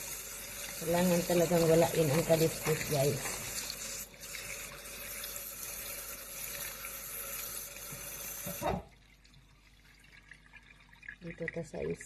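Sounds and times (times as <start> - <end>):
tap water running into colander: 0.0 - 12.0.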